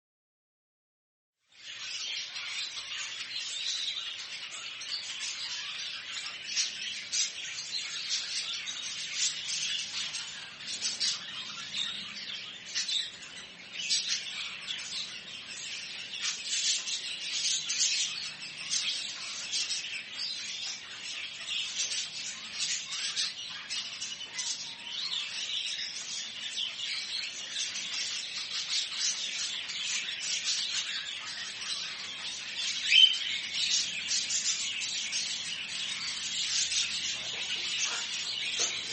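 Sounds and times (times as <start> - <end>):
many birds chirping: 1.4 - 38.9.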